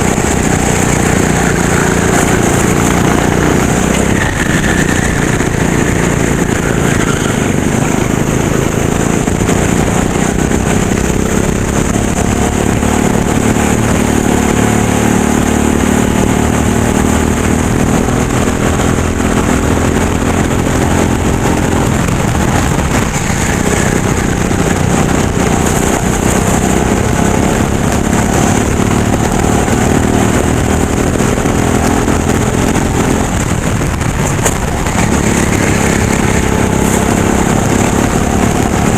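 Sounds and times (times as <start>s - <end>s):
go-kart engine revving: 0.0s - 38.9s
road and air noise: 0.0s - 38.9s.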